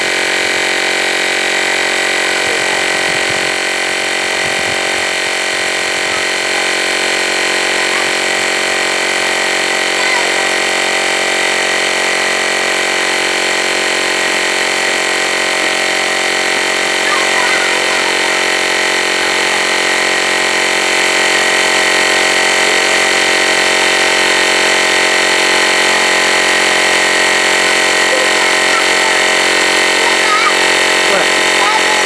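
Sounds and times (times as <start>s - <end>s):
tire inflator compressor running: 0.0s - 32.0s.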